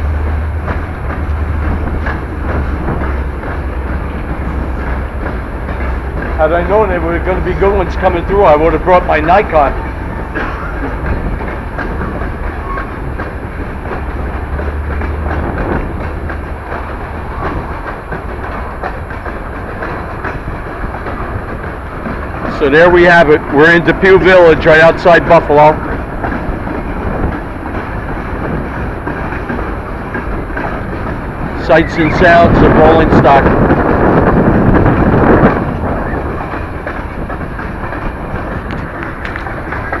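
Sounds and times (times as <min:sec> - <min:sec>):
clicking at rail joints: 0:00.0 - 0:40.0
freight train rolling past: 0:00.0 - 0:40.0.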